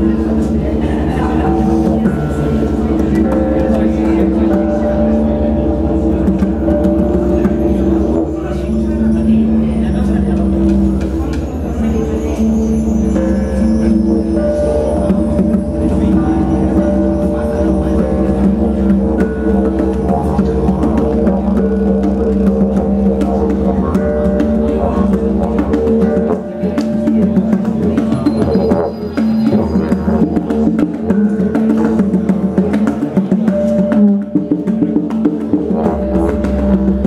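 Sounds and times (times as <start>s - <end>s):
didgeridoo drone: 0.0s - 37.0s
hand drumming: 0.0s - 37.0s.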